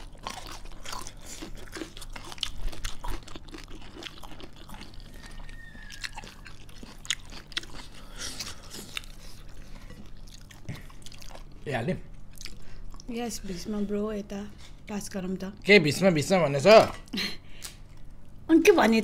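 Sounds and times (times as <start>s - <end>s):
chewing and crunching food: 0.0s - 15.7s.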